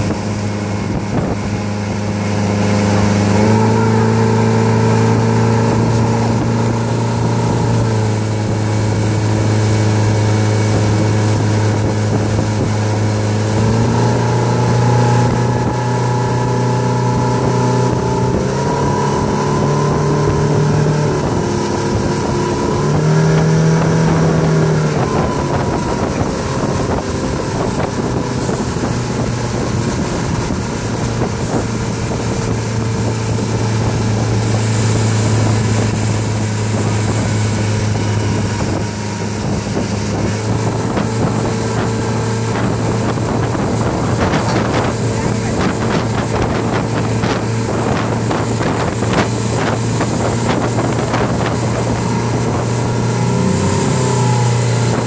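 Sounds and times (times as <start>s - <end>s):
motorboat engine running: 0.0s - 55.0s
wake rushing: 0.0s - 55.0s
wind buffeting microphone: 0.0s - 55.0s.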